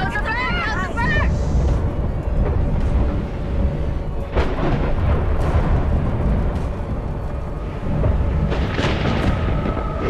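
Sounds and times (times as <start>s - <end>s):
deep steady rumble: 0.0s - 10.0s
dramatic film score: 0.0s - 10.0s.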